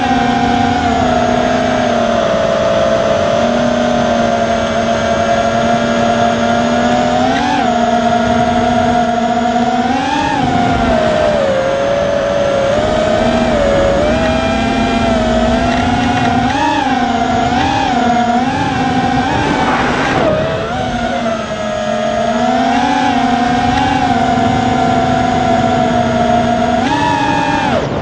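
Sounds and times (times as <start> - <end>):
drone motors and propellers whining: 0.0 - 28.0.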